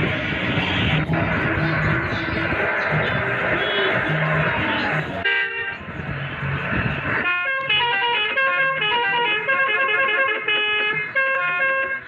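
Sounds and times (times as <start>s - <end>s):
engine and road noise: 0.0s - 12.0s.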